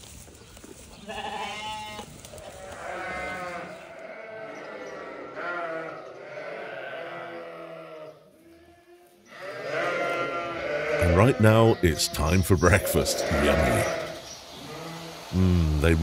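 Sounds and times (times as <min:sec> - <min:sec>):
sheep bleating: 0:01.0 - 0:15.1.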